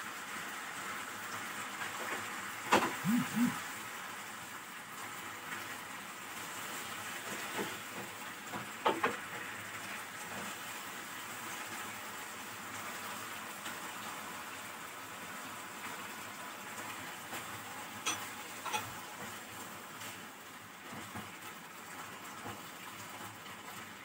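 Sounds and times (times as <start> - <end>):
food sizzling in frying pan: 3.9 - 24.0.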